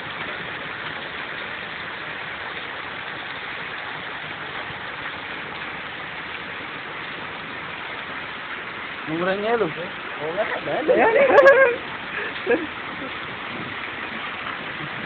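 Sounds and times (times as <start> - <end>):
heavy rain and hail: 0.0 - 15.0.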